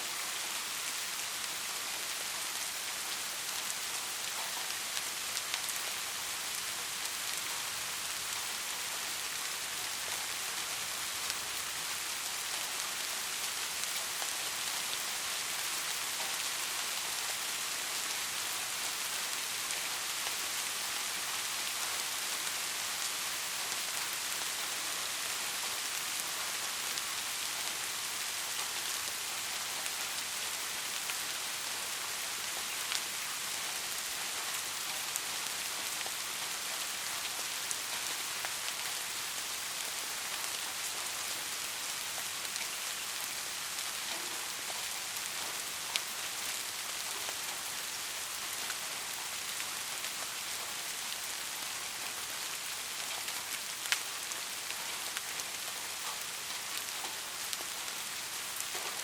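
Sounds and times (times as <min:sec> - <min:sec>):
soft rain hiss: 0:00.0 - 0:59.0.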